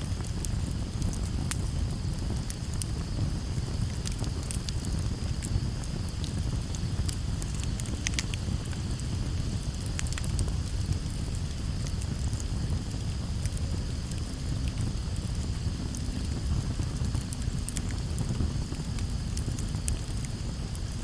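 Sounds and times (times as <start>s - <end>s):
flames rumbling: 0.0s - 21.0s
wood crackling and popping: 0.0s - 21.0s.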